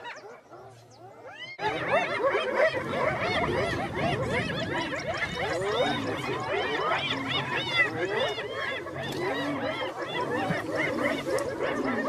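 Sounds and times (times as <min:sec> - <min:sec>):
hyenas calling and chattering: 0:00.0 - 0:12.0.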